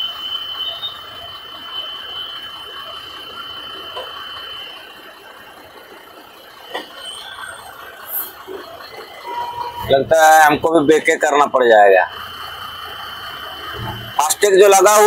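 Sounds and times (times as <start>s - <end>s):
high-pitched electronic tone: 0.0s - 15.0s
low cab hum: 0.0s - 15.0s.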